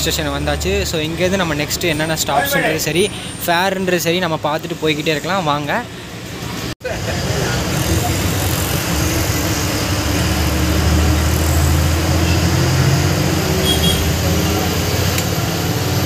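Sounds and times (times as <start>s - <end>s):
road and cabin noise: 0.0s - 16.0s.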